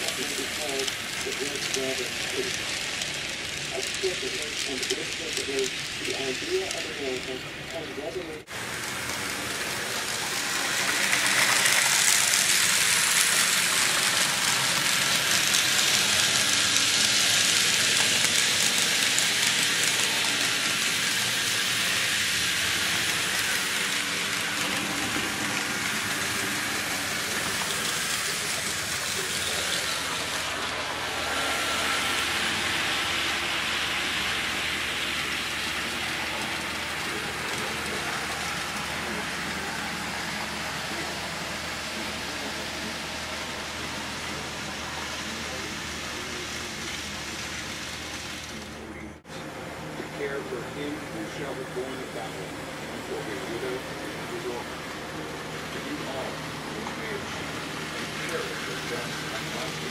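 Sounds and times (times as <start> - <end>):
constant hiss: 0.0 - 59.9
model locomotive engine hum: 0.0 - 59.9.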